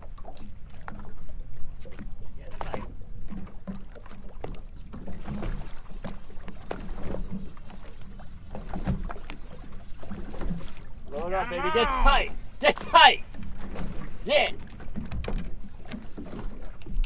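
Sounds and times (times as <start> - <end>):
waves slapping boat hull: 0.0 - 17.0.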